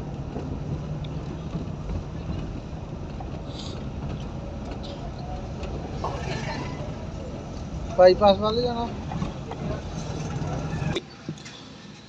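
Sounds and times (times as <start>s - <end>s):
van engine rumble: 0.0s - 12.0s.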